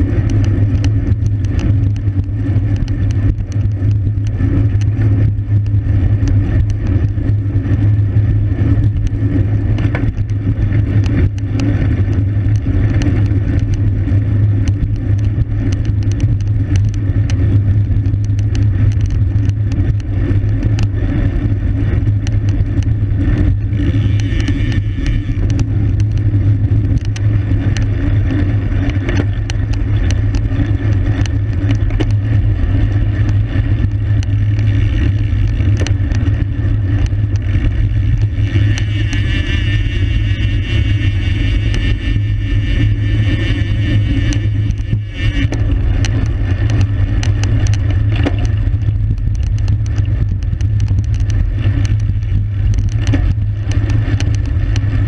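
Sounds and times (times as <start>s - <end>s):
road rumble: 0.0s - 55.0s
small clicks: 0.0s - 55.0s.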